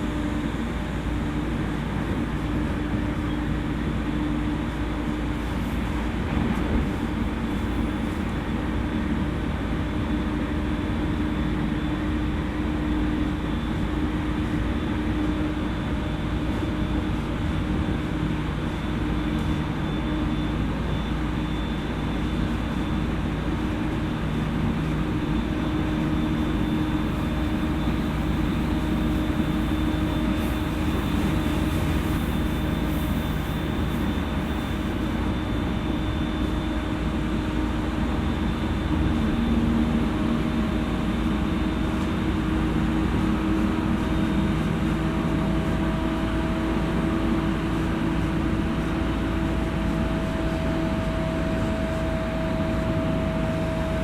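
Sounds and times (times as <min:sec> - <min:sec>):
train hum tones: 0:00.0 - 0:54.0
train rumbling on track: 0:00.0 - 0:54.0.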